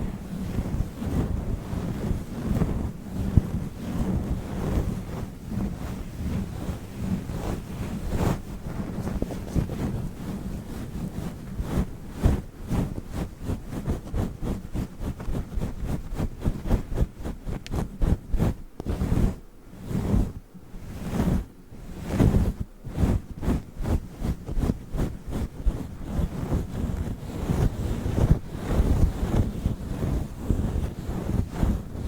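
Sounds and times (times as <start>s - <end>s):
fingers scratching microphone windscreen: 0.0s - 21.4s, 22.0s - 32.0s.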